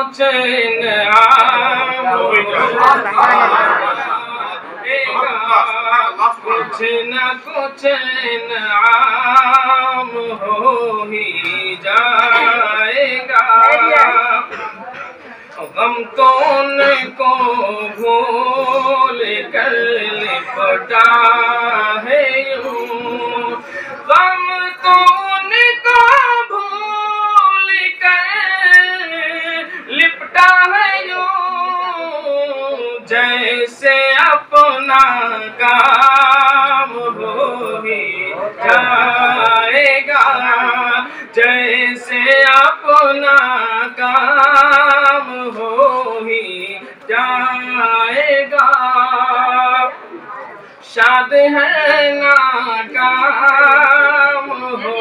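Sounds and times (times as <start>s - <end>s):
person singing unaccompanied: 0.0s - 14.5s, 15.8s - 50.0s, 50.8s - 55.0s.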